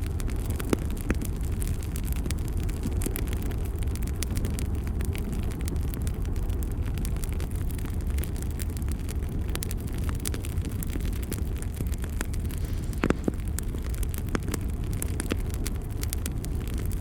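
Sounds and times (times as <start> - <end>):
burning wood crackling and popping: 0.0 - 17.0
low rumble of flames: 0.0 - 17.0.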